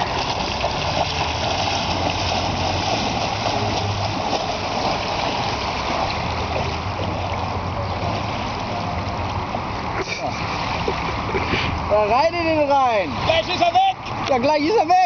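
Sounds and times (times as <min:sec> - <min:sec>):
legs wading through water: 0:00.0 - 0:14.9.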